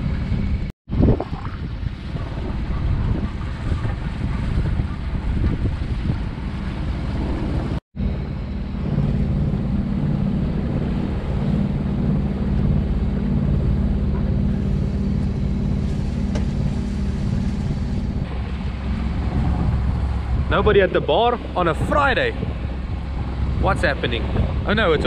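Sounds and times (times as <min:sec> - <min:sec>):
outboard motor drone: 0:00.0 - 0:25.0
water rushing past boat: 0:00.0 - 0:25.0
wind rushing: 0:00.0 - 0:25.0.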